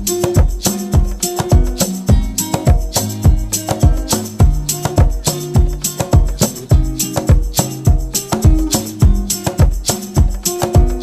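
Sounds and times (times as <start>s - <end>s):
background music with percussive beat: 0.0s - 11.0s.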